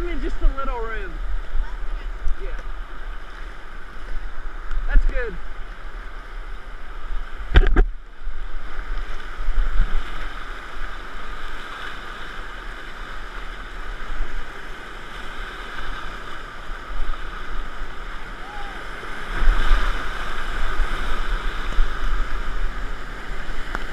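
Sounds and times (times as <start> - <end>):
whitewater rushing: 0.0 - 23.9.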